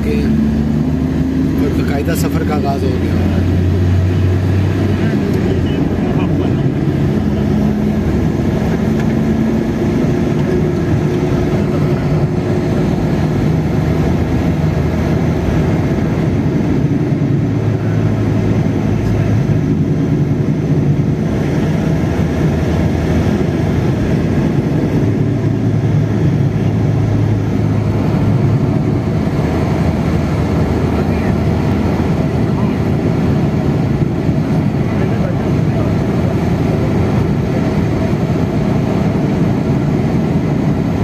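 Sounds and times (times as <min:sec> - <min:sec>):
vehicle engine and road noise: 0:00.0 - 0:41.0.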